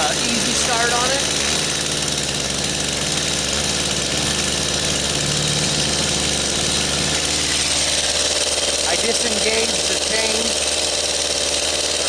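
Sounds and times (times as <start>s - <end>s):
chainsaw fast idle: 0.0s - 12.0s.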